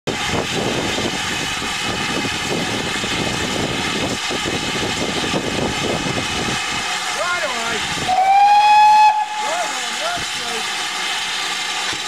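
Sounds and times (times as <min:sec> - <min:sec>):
steam hissing: 0:00.1 - 0:12.0.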